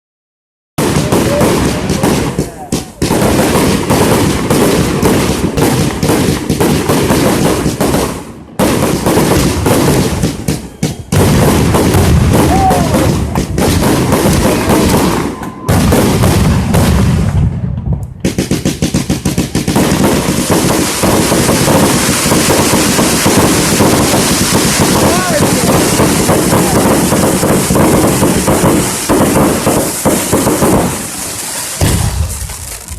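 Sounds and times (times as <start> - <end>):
fireworks bangs and crackles: 0.8 - 32.9.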